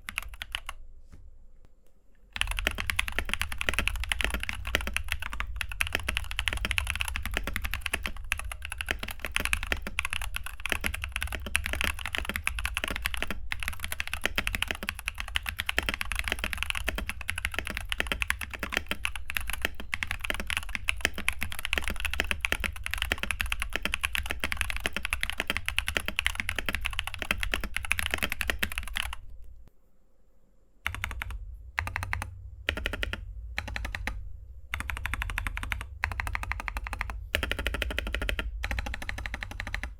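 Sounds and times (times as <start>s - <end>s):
mechanical keyboard typing: 0.0s - 0.8s, 2.4s - 29.3s, 30.9s - 39.9s.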